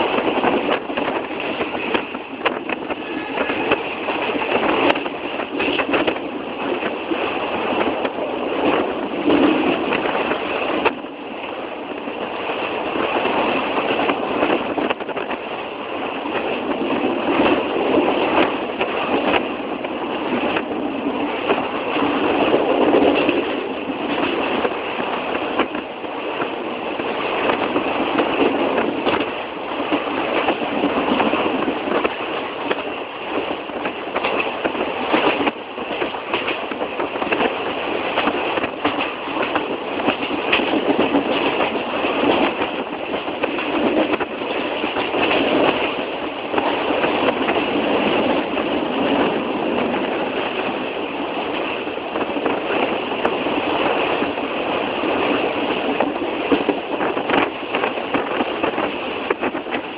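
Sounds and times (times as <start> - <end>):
sharp clicks of train wheels: 0.0 - 59.9
train rattling along track: 0.0 - 59.9.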